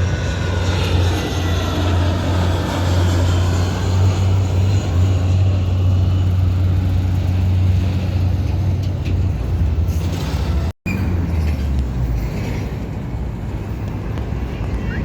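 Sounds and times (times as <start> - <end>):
jet airliner landing rumble: 0.0 - 15.0.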